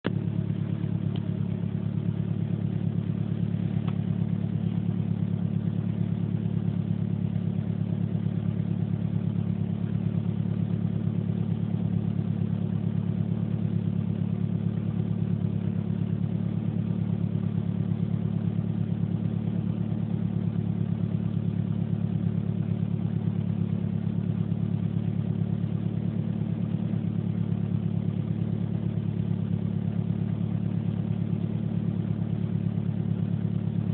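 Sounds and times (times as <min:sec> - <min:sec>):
vehicle engine idling: 0:00.0 - 0:33.9.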